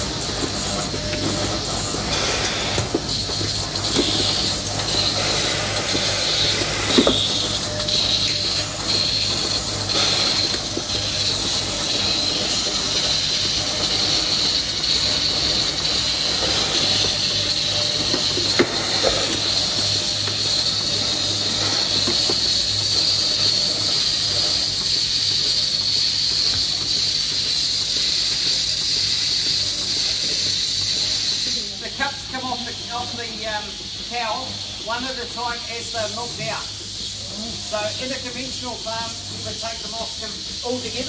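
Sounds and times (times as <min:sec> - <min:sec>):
milking machine hissing and humming: 0:00.0 - 0:41.0.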